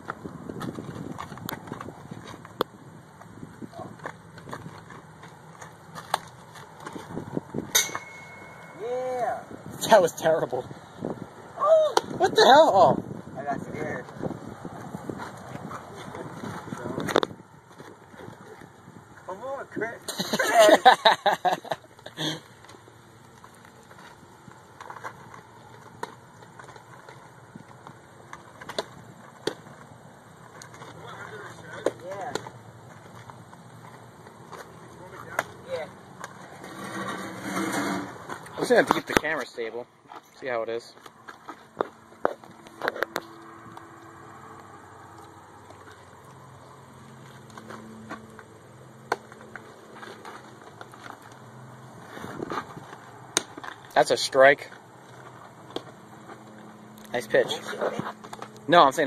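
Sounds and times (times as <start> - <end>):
faint outdoor background: 0.0 - 59.0.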